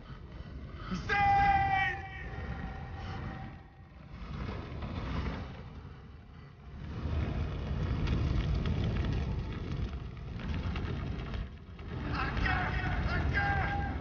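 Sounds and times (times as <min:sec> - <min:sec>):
fire rumbling and crackling: 0:00.0 - 0:14.0.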